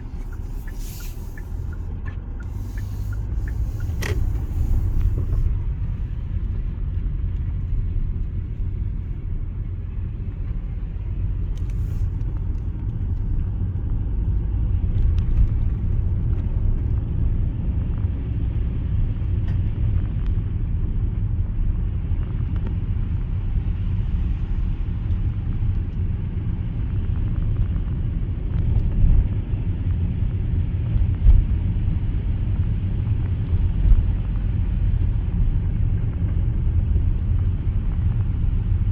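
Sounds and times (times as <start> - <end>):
engine and tyres rumbling: 0.0 - 38.9.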